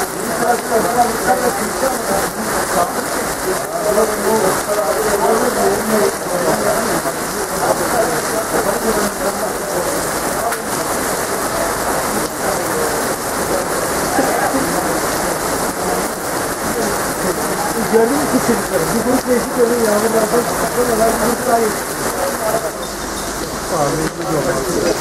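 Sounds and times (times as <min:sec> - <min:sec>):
heavy rain on pavement: 0:00.0 - 0:25.0.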